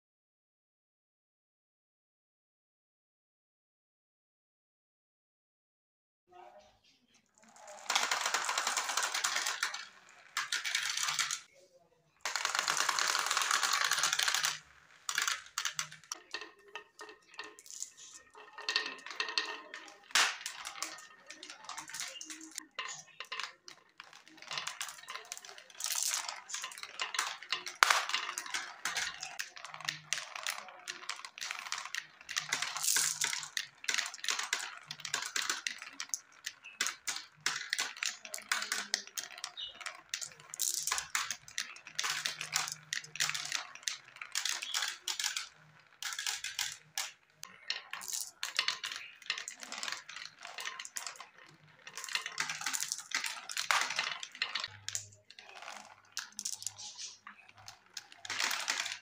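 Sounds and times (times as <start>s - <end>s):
marbles clattering down plastic track: 7.4s - 11.6s, 12.2s - 59.0s.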